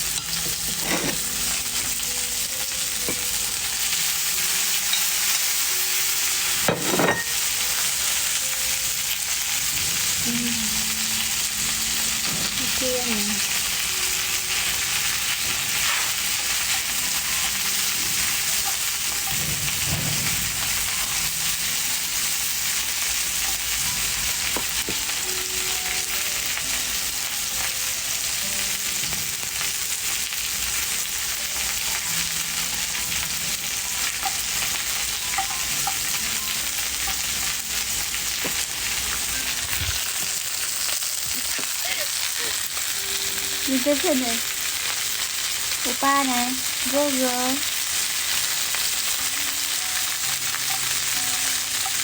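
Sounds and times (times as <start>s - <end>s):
food sizzling in a pan: 0.0s - 52.0s.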